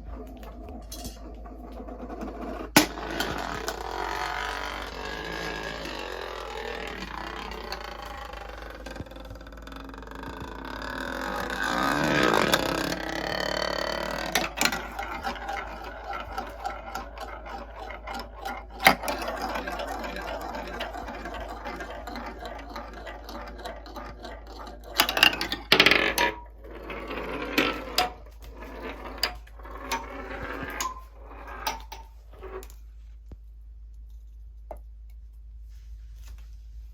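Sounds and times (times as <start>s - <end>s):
marbles clacking: 0.0s - 32.7s
marbles rolling along track: 0.0s - 33.0s.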